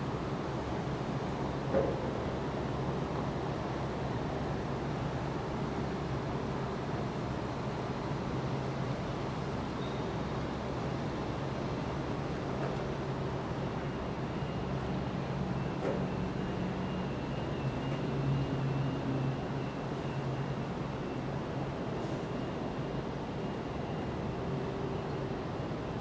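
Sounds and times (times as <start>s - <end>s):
city traffic noise: 0.1s - 26.0s.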